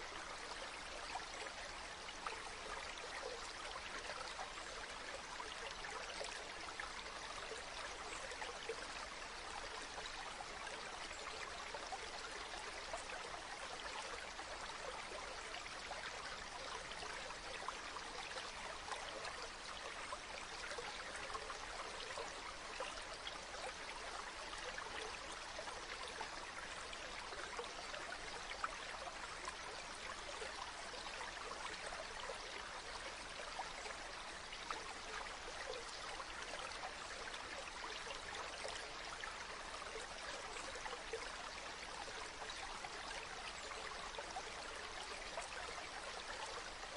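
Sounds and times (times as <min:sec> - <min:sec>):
stream water babbling: 0:00.0 - 0:46.9.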